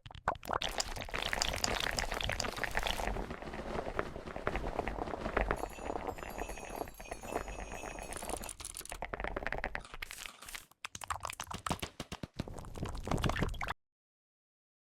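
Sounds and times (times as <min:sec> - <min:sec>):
rapid typing on keyboard: 0:00.7 - 0:13.5.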